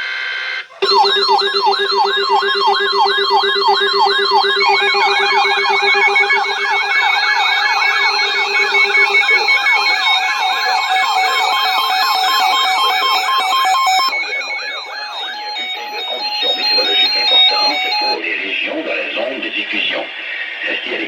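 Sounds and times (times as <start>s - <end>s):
beeping tone: 0.8s - 18.2s
second overlapping siren sweep: 0.8s - 18.2s
yelping electronic siren tone: 0.8s - 18.2s.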